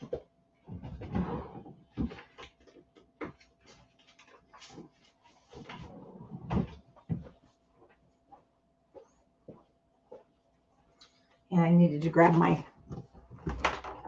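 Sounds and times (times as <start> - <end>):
rustling of handled things: 0.0 - 11.4.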